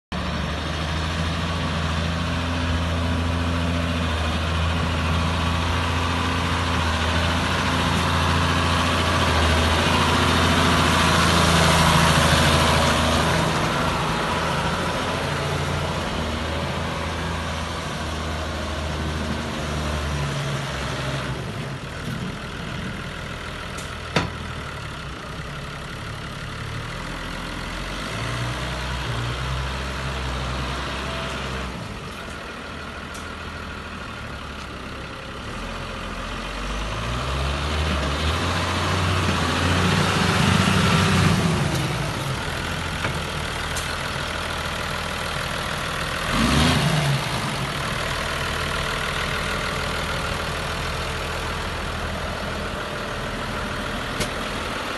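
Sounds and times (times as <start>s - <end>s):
tractor diesel engine running: 0.1s - 54.9s.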